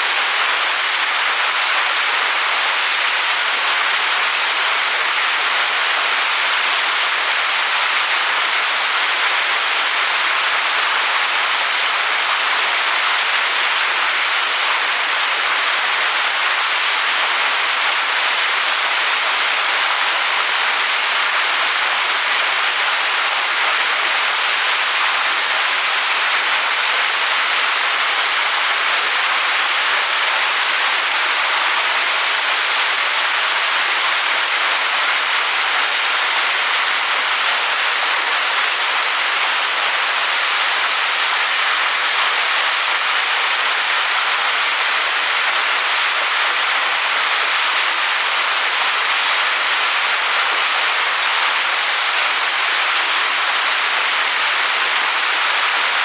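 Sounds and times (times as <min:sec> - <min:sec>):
waterfall pouring onto rocks: 0:00.0 - 0:56.0.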